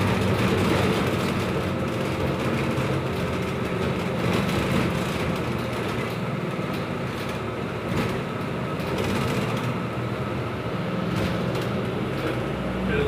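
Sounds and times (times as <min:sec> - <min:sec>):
bus engine hum: 0:00.0 - 0:13.0
road noise: 0:00.0 - 0:13.0.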